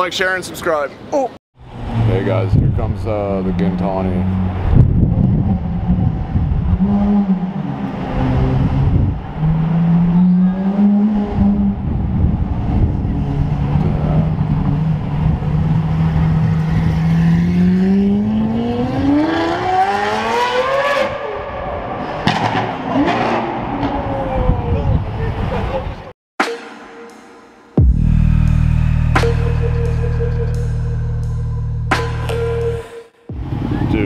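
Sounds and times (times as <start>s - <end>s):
sports car engine accelerating: 1.6s - 24.2s, 27.8s - 34.0s.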